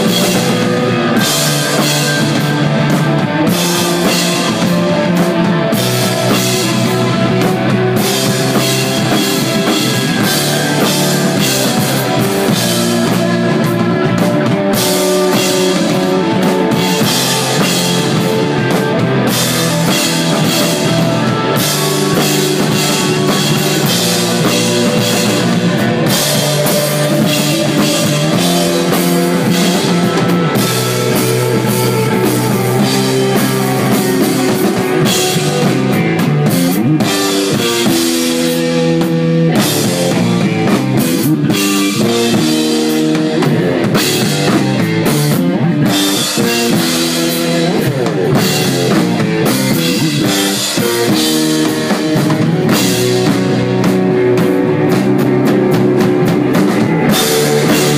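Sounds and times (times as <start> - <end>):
rock band playing live: 0.0 - 57.9.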